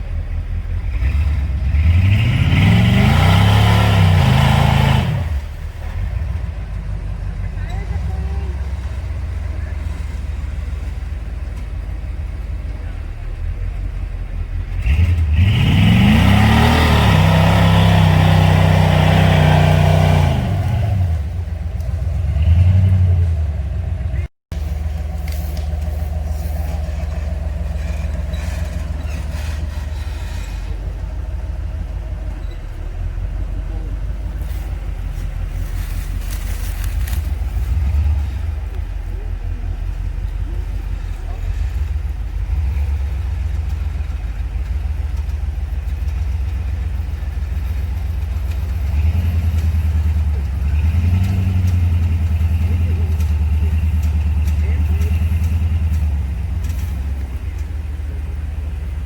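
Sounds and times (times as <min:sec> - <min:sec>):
vehicle engine running at low revs: 0:00.0 - 0:59.0.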